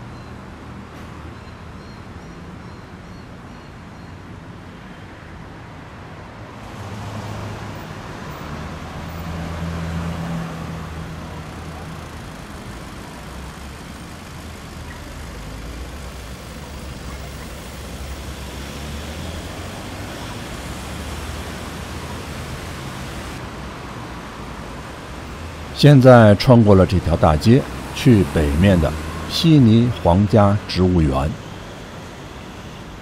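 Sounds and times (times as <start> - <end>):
vehicles passing: 0.0 - 33.0
tyre and road noise: 3.3 - 33.0.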